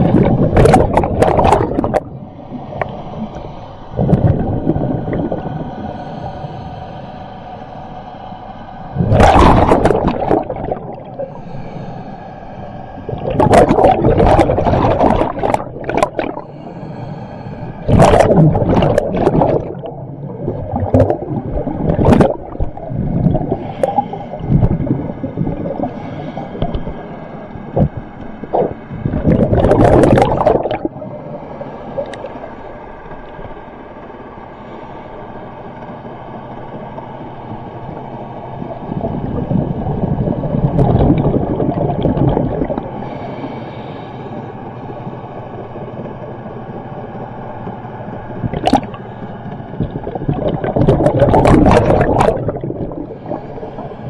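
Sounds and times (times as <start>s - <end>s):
underwater bubbles gurgling: 0.0s - 6.6s, 8.9s - 11.8s, 12.7s - 54.0s
steady low hum: 0.0s - 54.0s.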